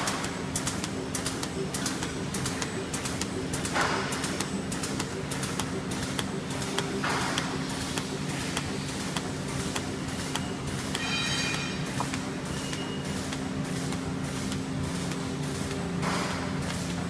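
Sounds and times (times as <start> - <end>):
machine humming: 0.0 - 17.0
rapid mechanical clicking: 0.0 - 17.0.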